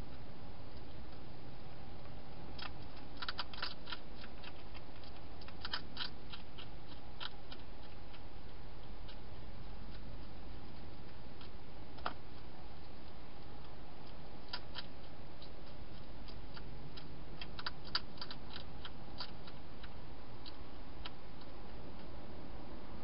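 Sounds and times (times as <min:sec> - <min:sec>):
hedgehog chewing crunches: 0:00.0 - 0:22.2.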